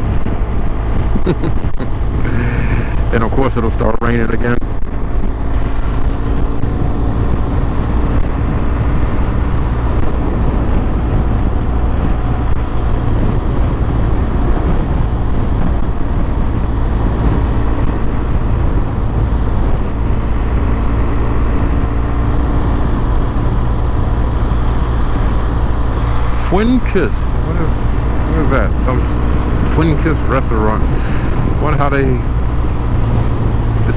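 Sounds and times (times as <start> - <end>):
motorcycle engine cruising: 0.0 - 33.9
wind and road noise: 0.0 - 33.9.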